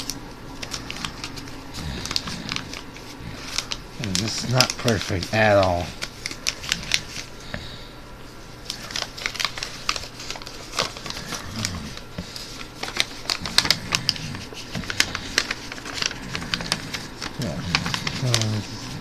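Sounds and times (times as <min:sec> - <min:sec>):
paper being folded and creased: 0:00.0 - 0:07.5, 0:08.6 - 0:19.0.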